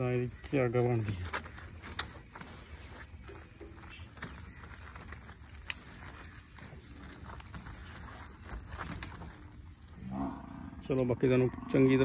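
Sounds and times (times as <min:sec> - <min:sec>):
low pump hum: 0:00.0 - 0:12.0.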